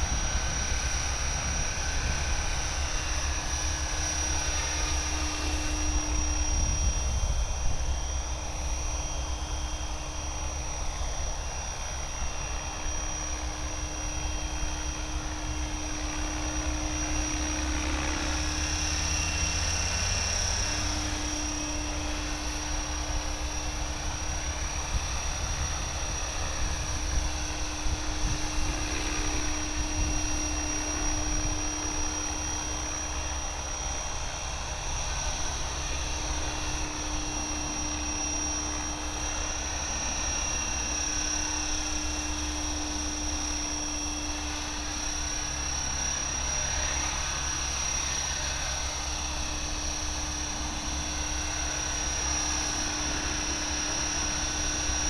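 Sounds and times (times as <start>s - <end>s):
electric motor whine: 0.0s - 55.0s
helicopter rotor whirring: 0.0s - 55.0s.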